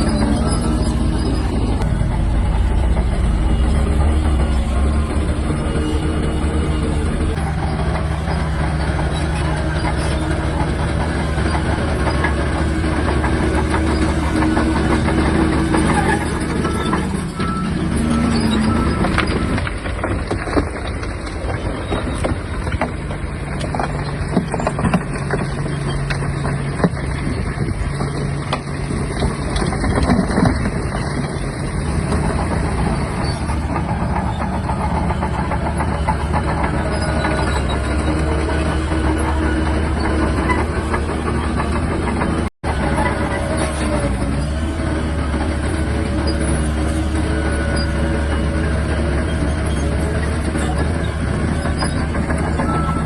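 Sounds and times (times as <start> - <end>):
bulldozer diesel engine running: 0.0 - 53.0
metal clanks and knocks: 0.0 - 53.0.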